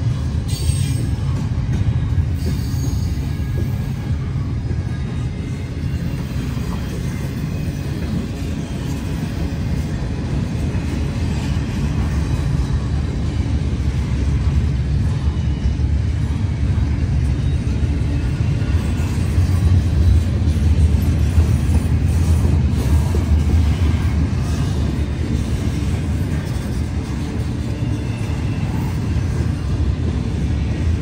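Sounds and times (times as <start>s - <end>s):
freight train wheels rumbling on rail: 0.0s - 31.0s.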